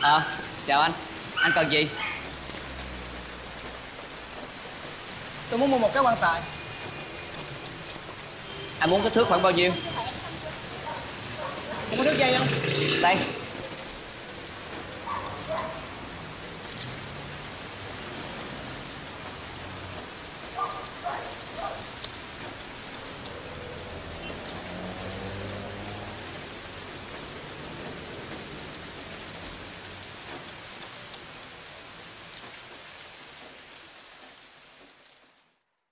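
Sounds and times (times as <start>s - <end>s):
sharp drips: 0.0s - 35.4s
steady rain falling: 0.0s - 35.9s.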